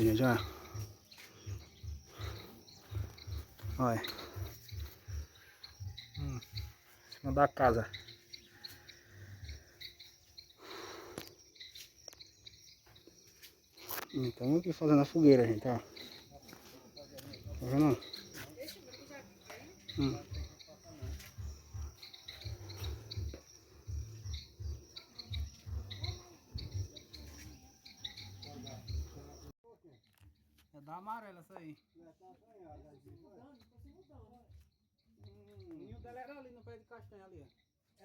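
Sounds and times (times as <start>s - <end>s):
insects chirping: 0.0s - 38.0s.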